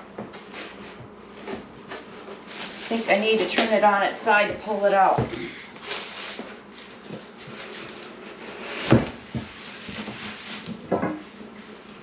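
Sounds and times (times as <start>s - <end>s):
bubble wrap and cardboard crinkling: 0.4s - 12.0s.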